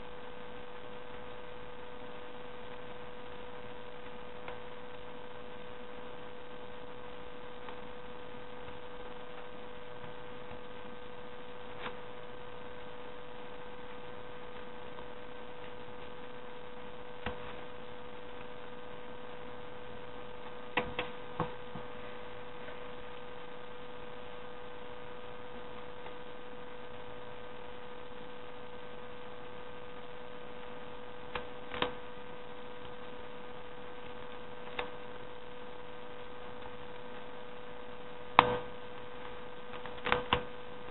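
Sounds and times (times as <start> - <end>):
electrical hum with high tone: 0.0 - 40.9.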